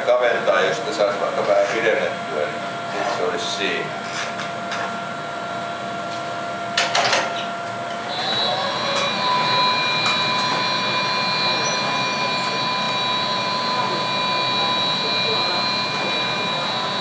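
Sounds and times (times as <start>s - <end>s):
furnace and blowers roaring: 0.0s - 17.0s
thin whine: 0.4s - 17.0s
higher whine: 0.8s - 17.0s.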